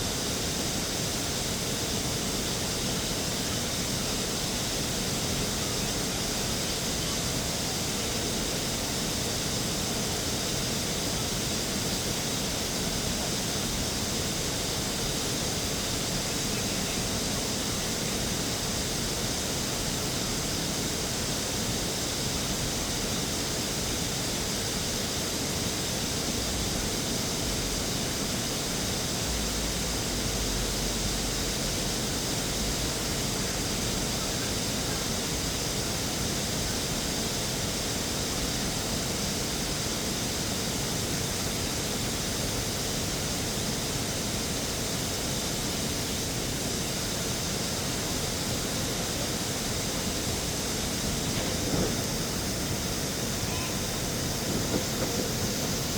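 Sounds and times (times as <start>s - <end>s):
steady rushing hiss: 0.0s - 55.9s.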